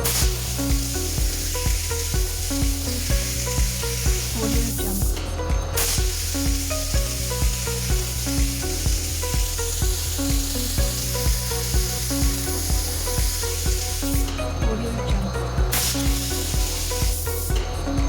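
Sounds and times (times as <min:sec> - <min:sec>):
background music with steady beat: 0:00.0 - 0:18.0
waterjet cutter hissing: 0:00.0 - 0:18.0.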